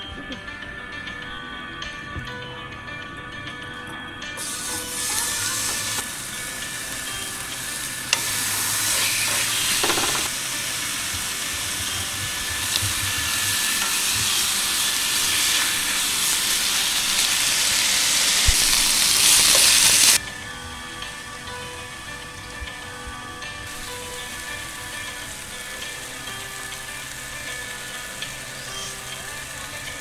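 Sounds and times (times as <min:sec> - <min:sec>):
food sizzling: 0:04.4 - 0:30.0.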